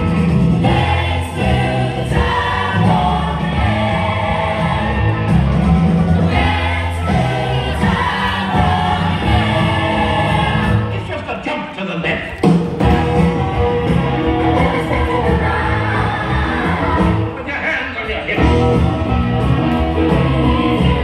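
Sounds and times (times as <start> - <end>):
heavy bass: 0.0 - 11.1, 12.6 - 17.4, 18.4 - 21.0
song with singing over sound system: 0.0 - 21.0.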